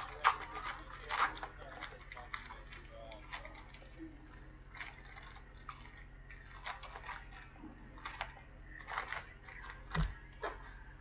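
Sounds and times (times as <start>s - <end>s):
cards clicking and rustling: 0.0s - 10.8s.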